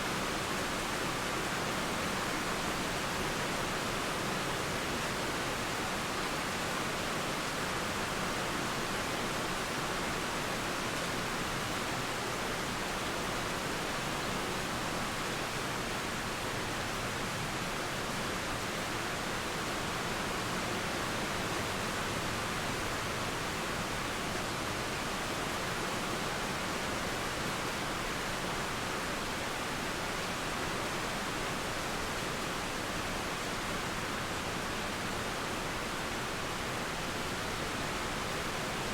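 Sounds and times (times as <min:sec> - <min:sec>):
rain: 0:00.0 - 0:38.9
river water flowing: 0:00.0 - 0:38.9.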